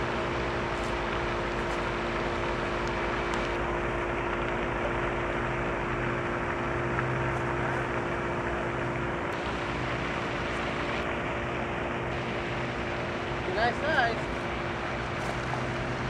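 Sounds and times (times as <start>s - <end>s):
constant low hum: 0.0s - 16.0s
steady hiss and rumble: 0.0s - 16.0s.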